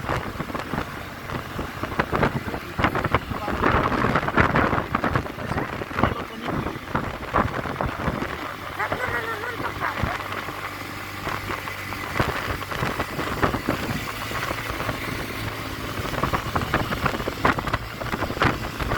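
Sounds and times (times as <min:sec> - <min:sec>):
scooter engine running: 0:00.0 - 0:18.9
wind buffeting microphone: 0:00.0 - 0:18.9.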